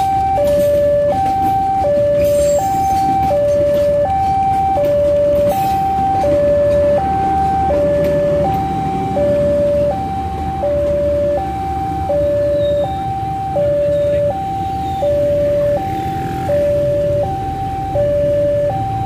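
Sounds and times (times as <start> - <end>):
passenger train rolling by: 0.0 - 17.6
level crossing two-tone alarm: 0.0 - 19.0.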